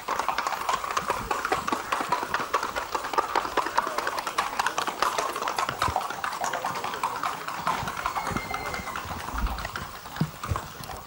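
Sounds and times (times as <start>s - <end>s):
rapid horse hoofbeats: 0.0s - 11.0s.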